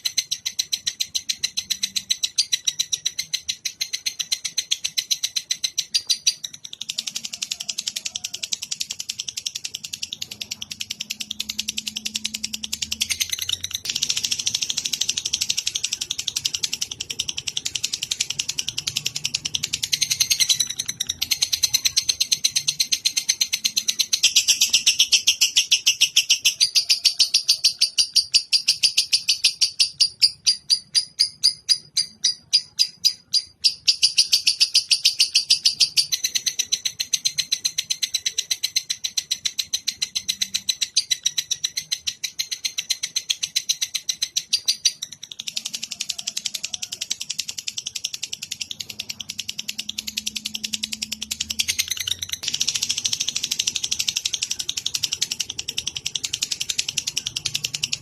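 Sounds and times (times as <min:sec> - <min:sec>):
lovebird chattering high chirps: 0:00.0 - 0:58.0.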